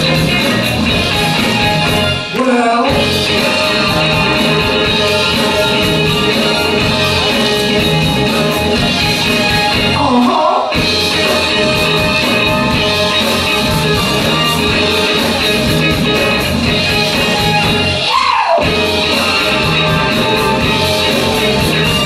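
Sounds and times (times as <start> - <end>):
live soul band playing: 0.0 - 22.0.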